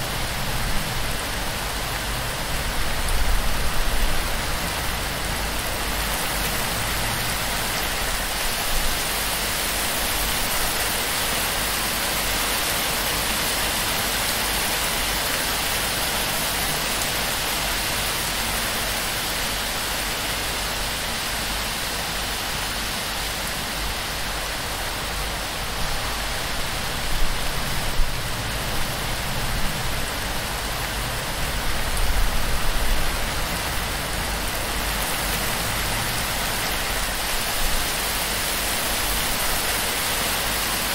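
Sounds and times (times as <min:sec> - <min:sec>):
heavy rain on thatch roof: 0:00.0 - 0:40.9.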